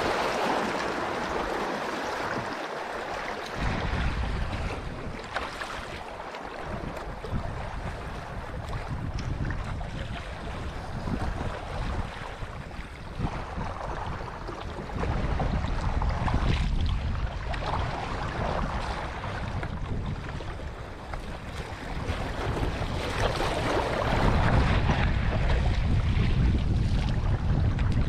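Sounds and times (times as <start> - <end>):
water splashing against hull: 0.0 - 28.0
wind buffeting microphone: 3.2 - 28.0.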